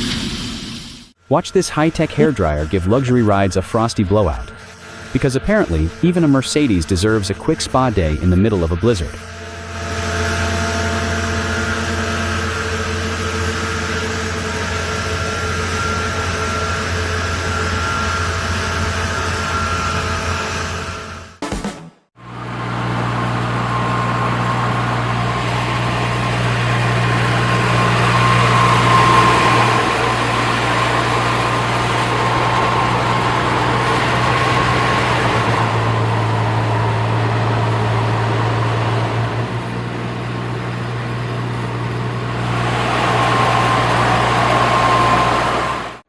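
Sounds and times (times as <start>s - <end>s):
snow removal machine engine humming: 0.0s - 21.4s, 22.2s - 46.0s.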